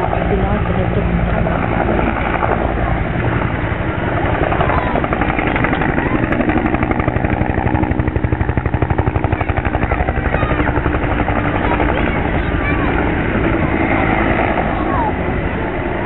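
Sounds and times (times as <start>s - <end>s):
aircraft chopping overhead: 0.0s - 16.0s.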